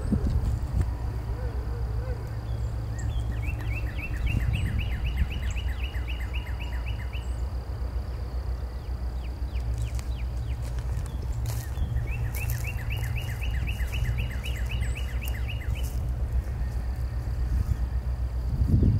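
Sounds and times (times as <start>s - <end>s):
birds chirping: 0.0s - 18.9s
distant diesel locomotive drone: 0.0s - 18.9s
songbird singing repeated notes: 0.0s - 18.9s.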